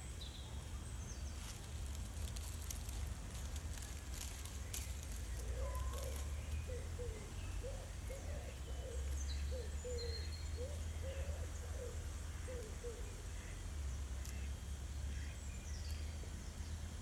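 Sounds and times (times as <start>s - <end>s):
soft low bird calls: 0.0s - 17.0s
steady low rumble: 0.0s - 17.0s.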